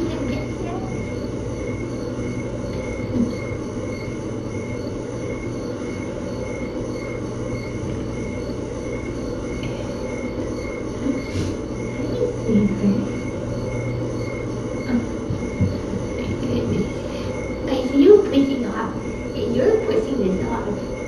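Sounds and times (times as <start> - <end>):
faint pulsing high tone: 0.0 - 21.0
low mechanical hum and rumble: 0.0 - 21.0.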